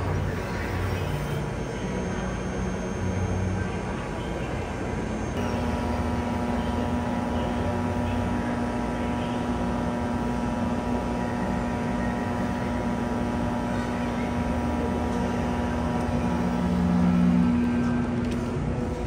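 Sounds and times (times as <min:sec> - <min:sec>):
cotton candy machine humming: 0:00.0 - 0:19.0.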